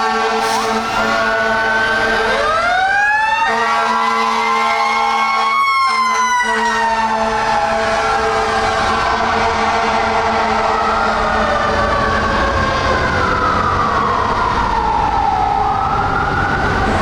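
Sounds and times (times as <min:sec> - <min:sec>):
wailing sirens: 0:00.0 - 0:17.0.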